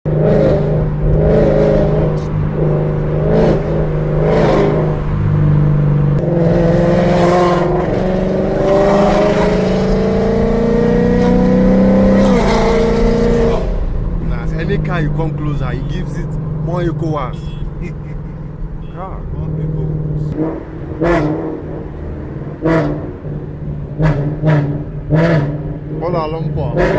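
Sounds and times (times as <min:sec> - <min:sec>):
car engine revving: 0:00.1 - 0:26.9.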